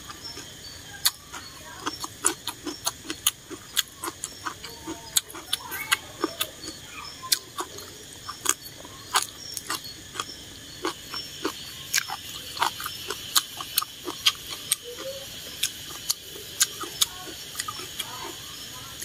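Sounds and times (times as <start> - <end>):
wet chewing and lip smacks: 0.0 - 18.4
insects droning: 0.0 - 19.0.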